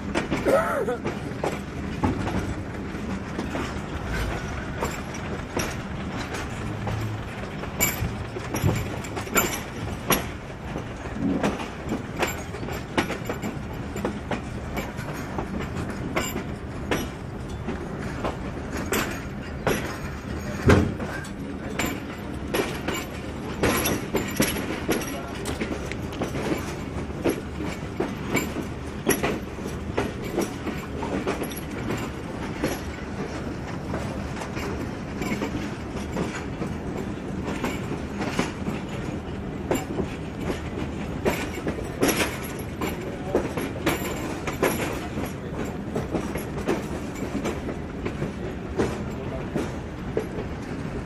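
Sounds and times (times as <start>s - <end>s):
low train rumble and hum: 0.0s - 51.0s
train wheels clacking over rail joints: 0.0s - 51.0s.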